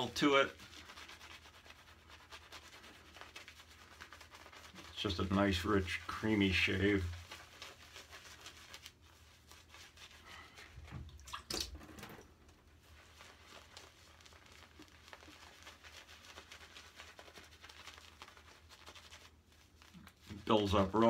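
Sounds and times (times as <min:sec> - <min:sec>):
shaving brush crackling on skin: 0:00.0 - 0:10.9, 0:12.4 - 0:21.0.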